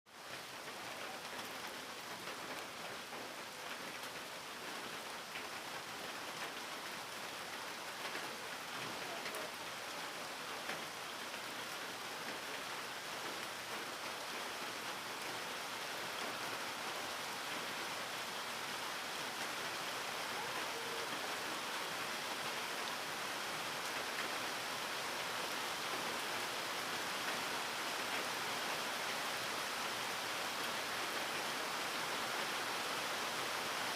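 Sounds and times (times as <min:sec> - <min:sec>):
steady rain hissing: 0:00.1 - 0:33.9.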